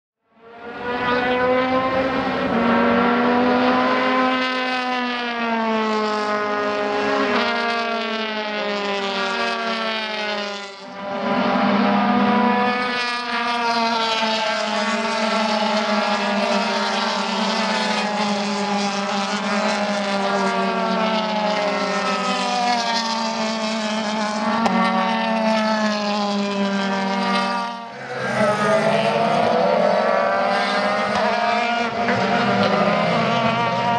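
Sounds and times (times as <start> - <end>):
race car engine at high revs: 0.3 - 33.9.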